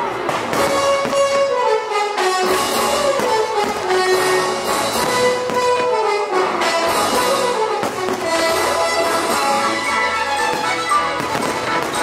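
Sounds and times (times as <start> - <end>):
orchestral music with brass and strings: 0.0 - 12.0.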